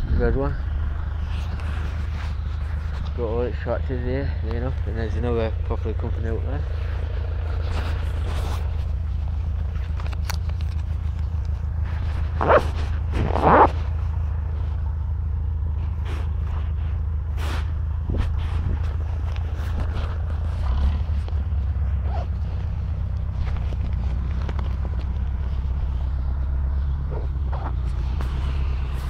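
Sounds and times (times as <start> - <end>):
low engine drone: 0.0 - 29.0
rustling and scraping: 1.0 - 14.9, 15.7 - 29.0.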